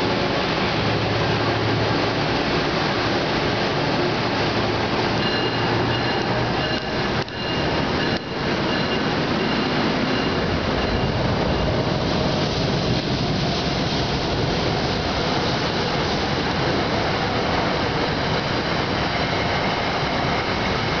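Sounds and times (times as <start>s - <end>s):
train cars rumbling past: 0.0s - 21.0s.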